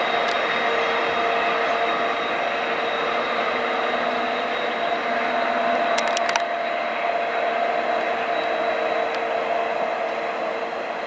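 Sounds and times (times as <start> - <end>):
diesel train engine drone: 0.0 - 11.0
sharp train clicks: 0.0 - 11.0.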